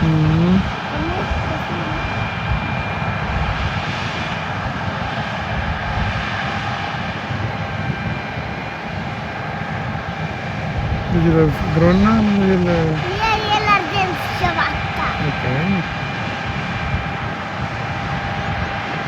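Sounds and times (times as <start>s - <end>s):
harvest machinery engine drone: 0.0s - 7.4s, 8.0s - 17.4s
faint steady whines: 0.0s - 19.0s.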